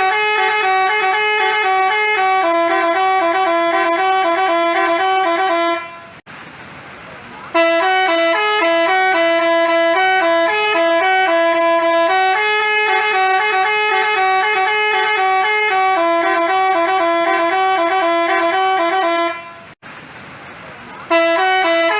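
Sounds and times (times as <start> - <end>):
multi-tone bus horn tune: 0.0 - 6.3, 7.5 - 19.8, 21.0 - 21.9.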